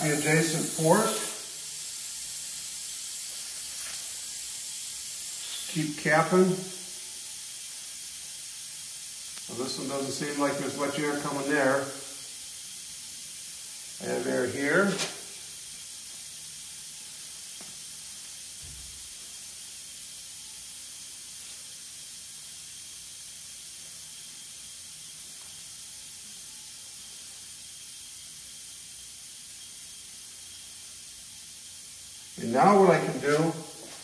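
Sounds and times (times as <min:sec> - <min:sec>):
hiss of compressed air escaping: 0:00.0 - 0:34.0.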